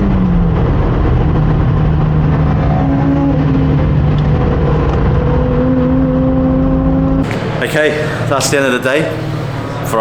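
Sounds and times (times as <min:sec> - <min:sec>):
rotary engine droning: 0:00.0 - 0:10.0
tyre and road noise: 0:00.0 - 0:10.0.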